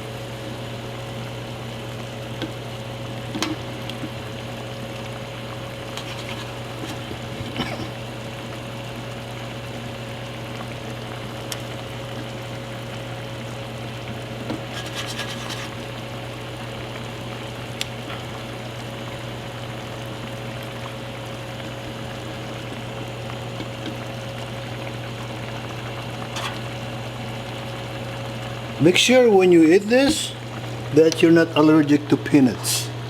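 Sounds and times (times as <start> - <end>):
steady low hum: 0.0 - 33.0
stew bubbling in a pot: 0.0 - 33.0.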